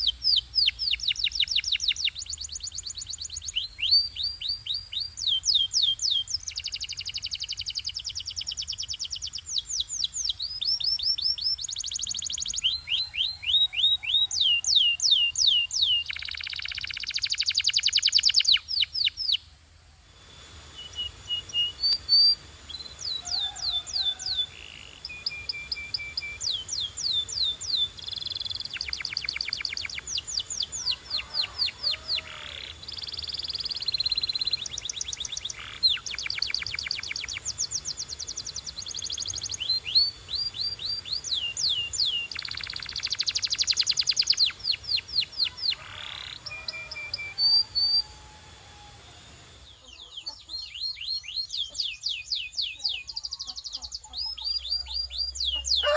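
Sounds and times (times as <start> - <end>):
canary singing trills: 0.0 - 19.5, 20.2 - 55.9.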